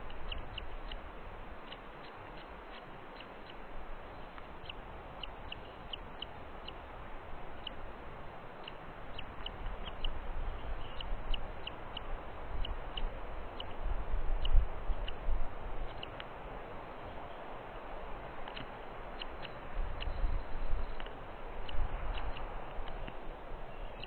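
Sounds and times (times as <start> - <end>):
small birds chirping: 0.0 - 24.0
steady hiss: 0.0 - 24.0.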